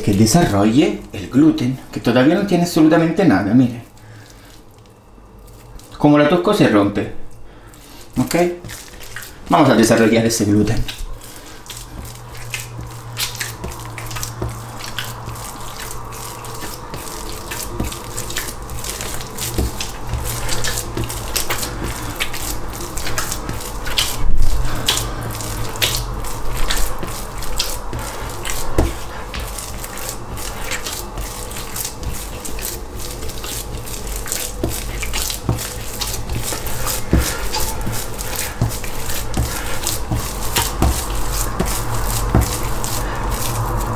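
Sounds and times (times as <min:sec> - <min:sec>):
dough squelching being kneaded: 0:00.0 - 0:43.9
low steady hum: 0:00.0 - 0:43.9.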